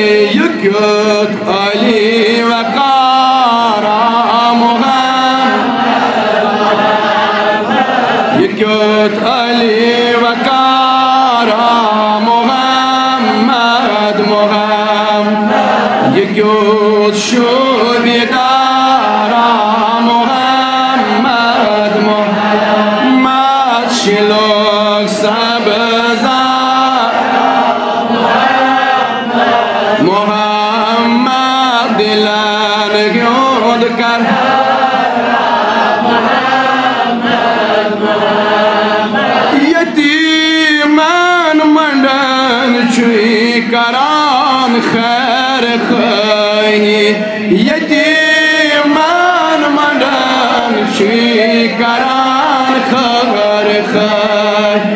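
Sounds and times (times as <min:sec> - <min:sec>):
man singing devotional song: 0:00.0 - 0:06.1, 0:07.7 - 0:54.9.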